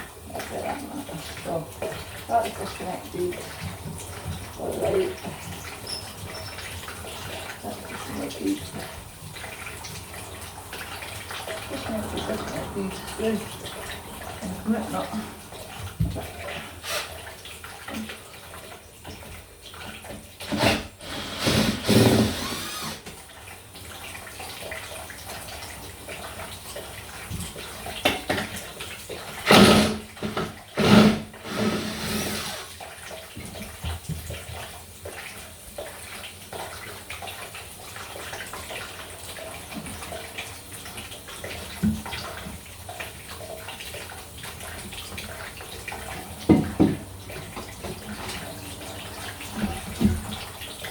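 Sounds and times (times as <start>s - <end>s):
water running: 0.0s - 50.9s.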